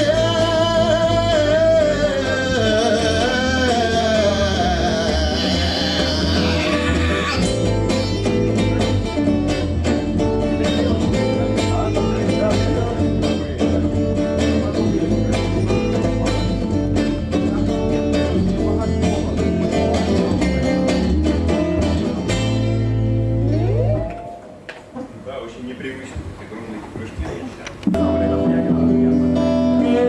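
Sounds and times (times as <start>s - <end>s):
acoustic guitar strumming: 0.0s - 24.7s, 27.9s - 30.0s.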